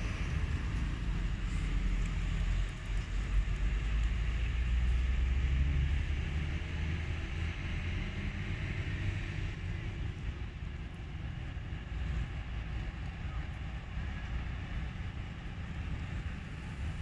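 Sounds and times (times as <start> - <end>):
jet engines rumbling at takeoff: 0.0 - 17.0.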